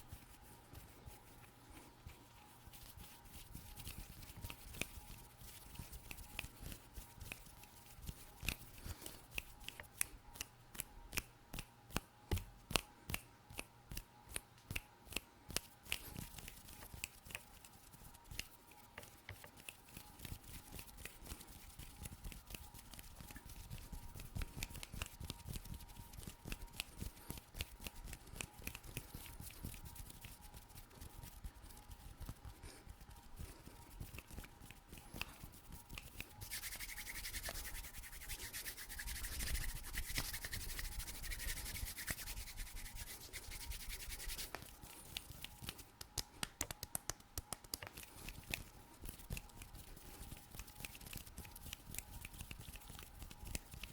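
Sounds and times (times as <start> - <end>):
hands rubbing and scratching skin: 0.0 - 53.9.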